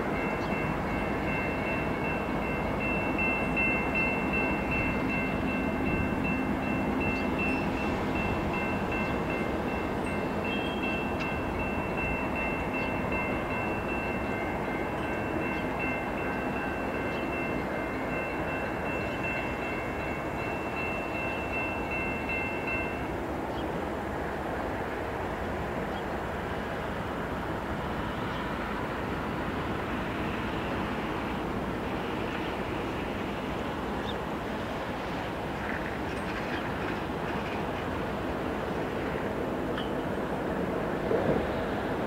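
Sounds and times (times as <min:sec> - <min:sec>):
diesel locomotive rumble: 0:00.0 - 0:42.0.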